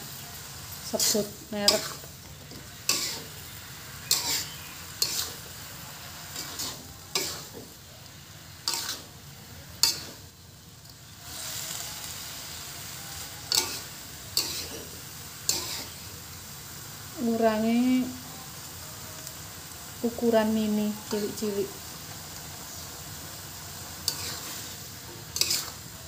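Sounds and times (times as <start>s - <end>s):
spatula scraping a wok: 0.0s - 17.1s, 20.4s - 26.0s
food sizzling: 0.0s - 26.0s.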